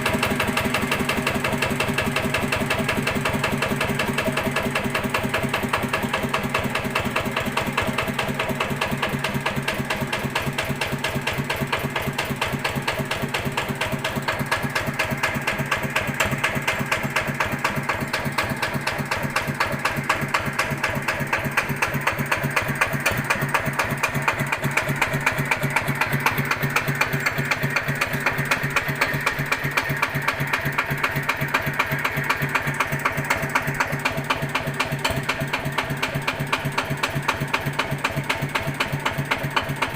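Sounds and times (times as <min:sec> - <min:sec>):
diesel engine idling: 0:00.0 - 0:39.9
repeated engine knocking: 0:00.0 - 0:39.9.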